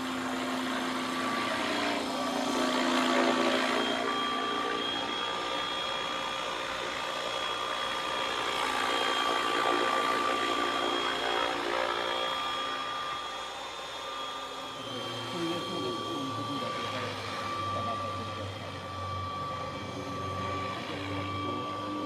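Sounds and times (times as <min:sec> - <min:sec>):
rc helicopter whine: 0:00.0 - 0:22.0.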